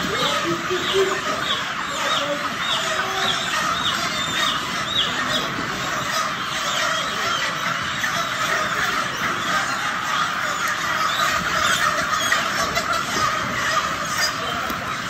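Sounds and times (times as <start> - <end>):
chickens peeping and clucking: 0.0 - 15.0.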